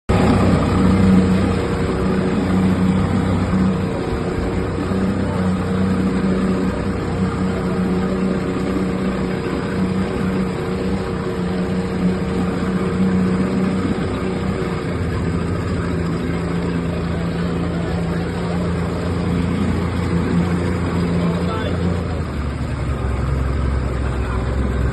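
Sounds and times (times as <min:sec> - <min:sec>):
boat motor humming: 0:00.0 - 0:24.9.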